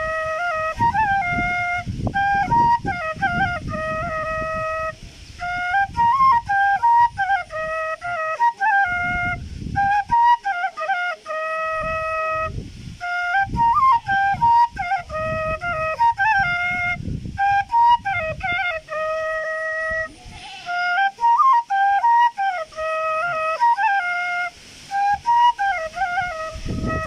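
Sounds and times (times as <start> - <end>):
bamboo flute melody: 0.0 - 27.0.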